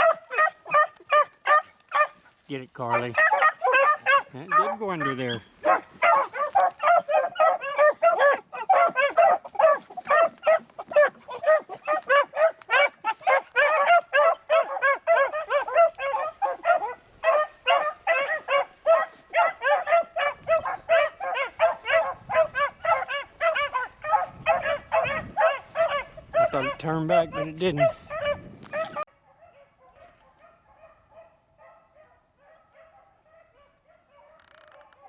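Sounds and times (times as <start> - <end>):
beagles baying: 0.0 - 35.0.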